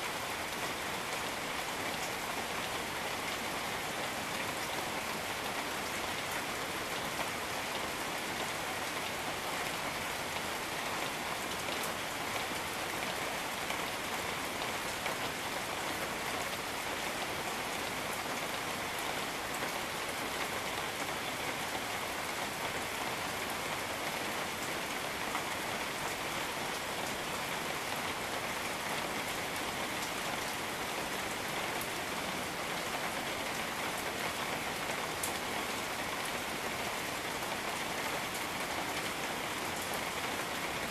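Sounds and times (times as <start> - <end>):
steady rain on foliage: 0.0 - 40.9.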